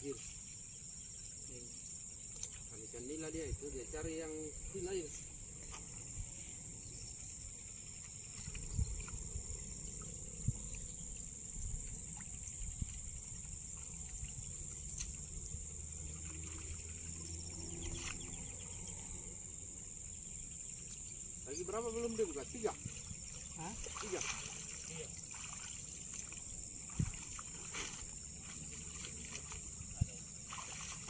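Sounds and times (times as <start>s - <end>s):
insects chorus: 0.0s - 31.0s.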